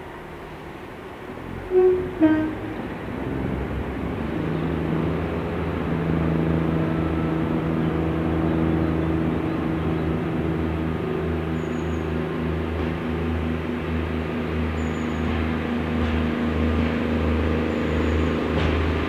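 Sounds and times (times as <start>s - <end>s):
diesel railbus engine droning: 0.0s - 19.0s.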